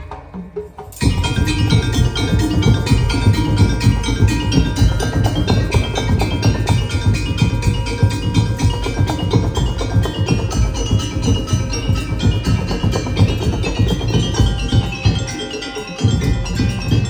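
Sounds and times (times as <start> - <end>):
drums: 0.0 - 17.0
mallet percussion run: 0.0 - 17.0.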